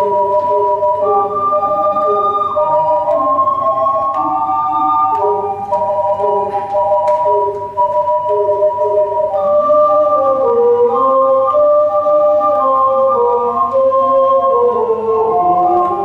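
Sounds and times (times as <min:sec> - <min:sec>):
ocarina ensemble melody: 0:00.0 - 0:16.0.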